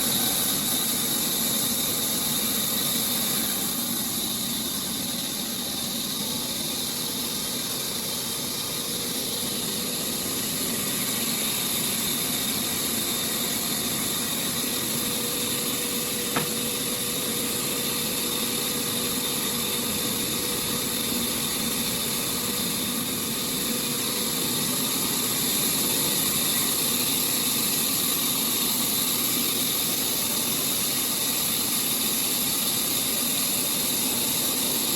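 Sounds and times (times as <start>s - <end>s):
sawmill machinery hissing: 0.0s - 34.9s.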